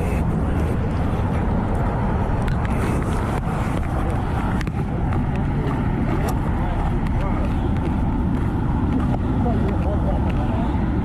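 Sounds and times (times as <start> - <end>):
motorcycle rumbling on road: 0.0 - 11.0.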